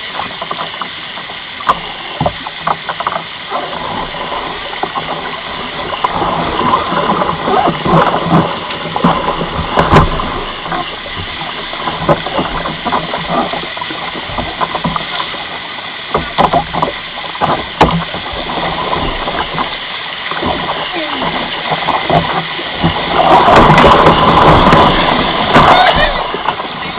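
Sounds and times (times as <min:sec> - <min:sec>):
splashes and knocks on kayak: 0:00.0 - 0:26.9
whitewater rushing: 0:00.0 - 0:26.9.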